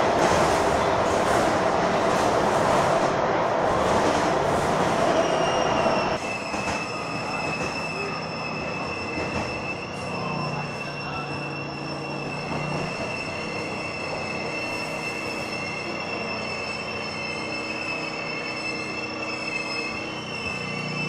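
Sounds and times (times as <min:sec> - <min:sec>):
train carriage rattle and rumble: 0:00.0 - 0:21.0
train wheels squealing on rails: 0:00.2 - 0:21.0.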